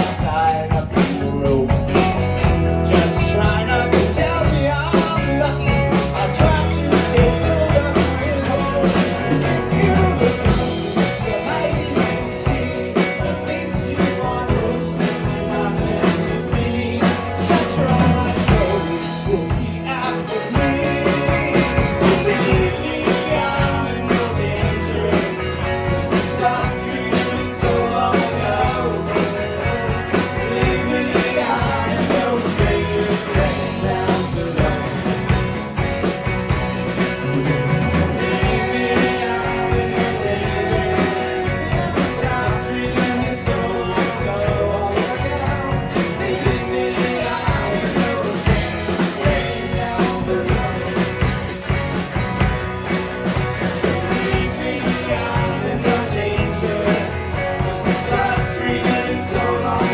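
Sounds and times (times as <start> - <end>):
person singing: 0.0 - 35.6, 37.8 - 51.6, 53.7 - 59.9
drum kit: 0.0 - 59.9
guitar: 0.0 - 59.9.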